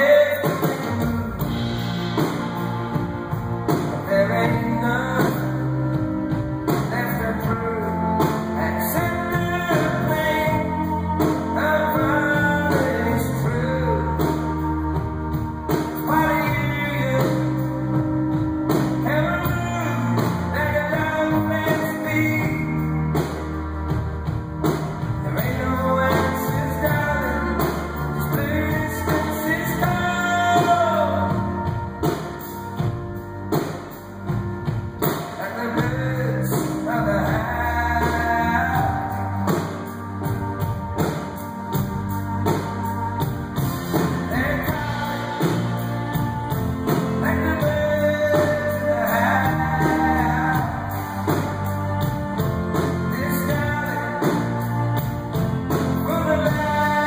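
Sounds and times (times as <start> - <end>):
lead vocal singing: 0.0 - 33.7, 34.3 - 57.0
live band playing: 0.0 - 57.0.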